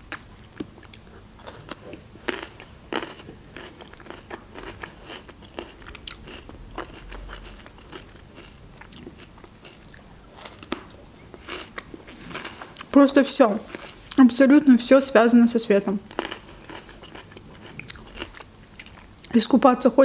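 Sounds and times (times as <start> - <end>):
chewing crunchy pepper: 0.5 - 14.2, 16.1 - 19.4.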